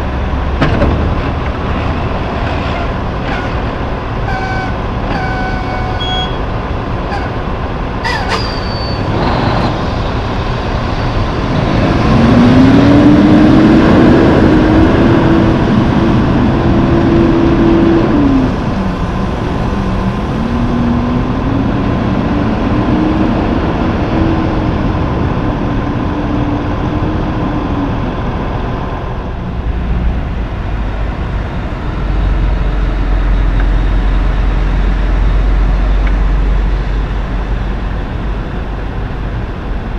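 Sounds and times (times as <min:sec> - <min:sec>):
deep low truck rumble: 0:00.0 - 0:39.9
diesel truck engine revving: 0:00.0 - 0:39.9.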